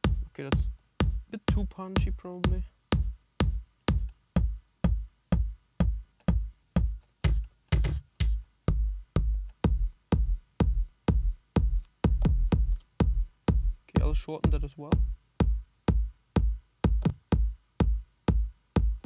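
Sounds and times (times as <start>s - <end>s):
layered kick drums looping: 0.0s - 19.0s.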